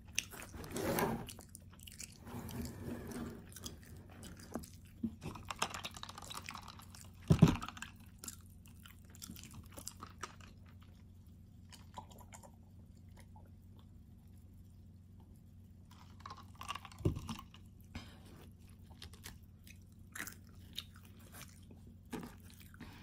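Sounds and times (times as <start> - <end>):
chewing and crunching: 0.0 - 0.6, 1.3 - 23.0.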